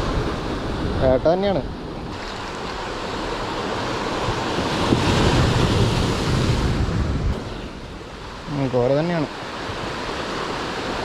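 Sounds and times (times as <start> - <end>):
surf breaking on shore: 0.0 - 11.0
wind buffeting microphone: 0.0 - 11.0.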